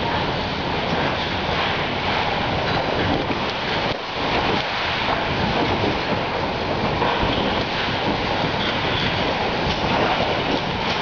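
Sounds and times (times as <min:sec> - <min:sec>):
wind buffeting tent fabric: 0:00.0 - 0:11.0.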